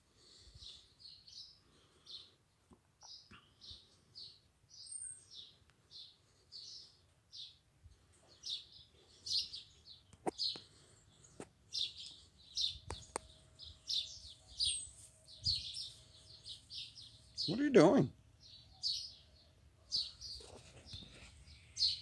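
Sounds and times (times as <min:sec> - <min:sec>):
blackbird chirping calls: 0:00.2 - 0:02.4, 0:03.0 - 0:22.0.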